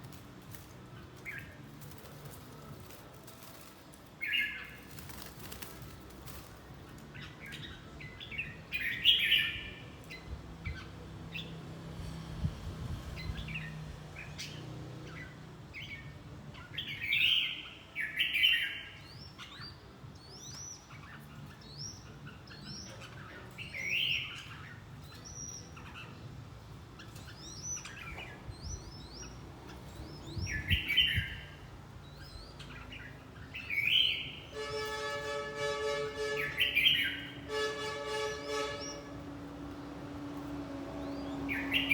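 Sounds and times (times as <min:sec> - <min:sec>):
bulbuls singing: 0:00.0 - 0:11.7, 0:13.2 - 0:41.9.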